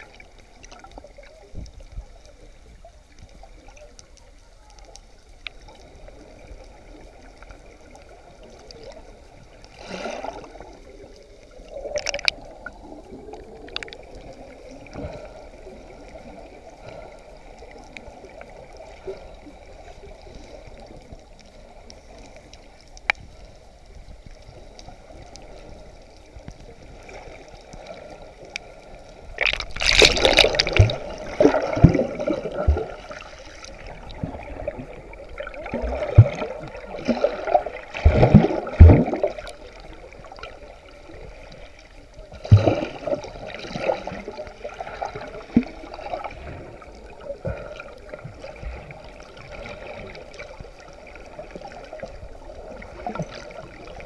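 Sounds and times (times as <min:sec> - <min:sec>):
churning bubbles and splashes: 0:00.0 - 0:02.1, 0:05.6 - 0:54.0
muffled underwater bubbling: 0:00.0 - 0:54.0.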